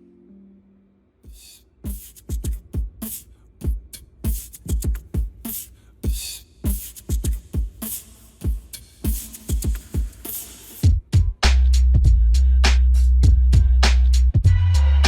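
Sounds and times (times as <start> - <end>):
electronic hip-hop beat: 1.2 - 15.0.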